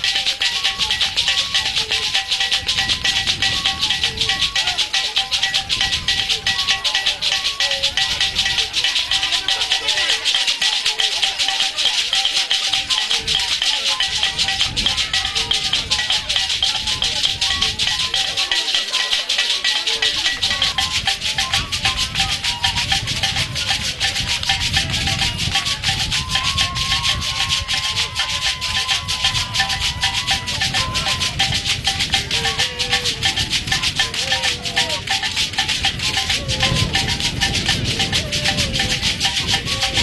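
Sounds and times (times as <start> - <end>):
faint wavering melody: 0.0 - 40.0
leg rattles shaking: 0.0 - 40.0.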